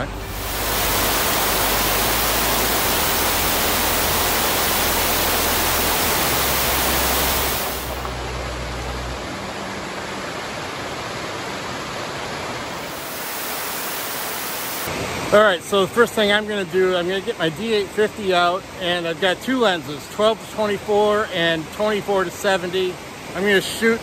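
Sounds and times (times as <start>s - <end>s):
creek and waterfall rushing: 0.0s - 24.0s.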